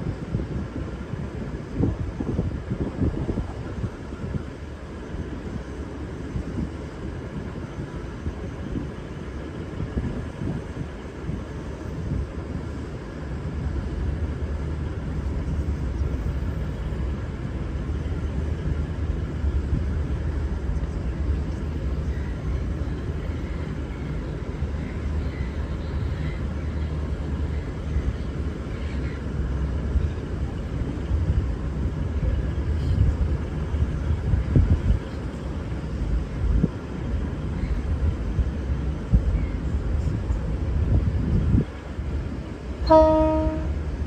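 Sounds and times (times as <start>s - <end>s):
diesel train engine rumble: 0.0s - 44.0s.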